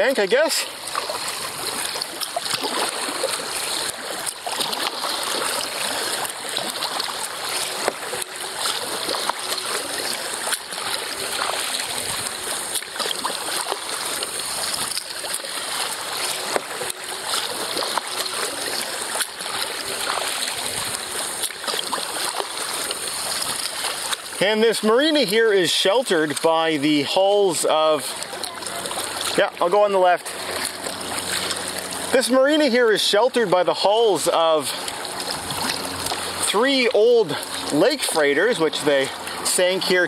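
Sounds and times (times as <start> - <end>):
paddle blades splashing: 0.0 - 40.0
water splashing around kayak: 0.0 - 40.0.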